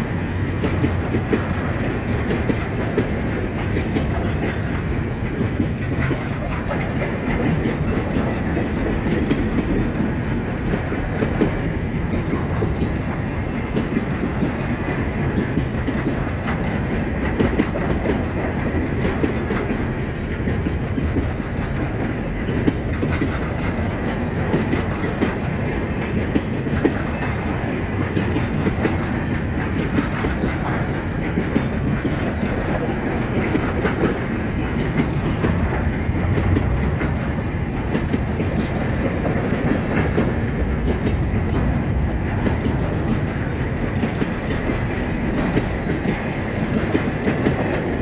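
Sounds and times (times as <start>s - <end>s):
freight train rumbling: 0.0s - 48.0s
wheels clicking over rail joints: 0.0s - 48.0s.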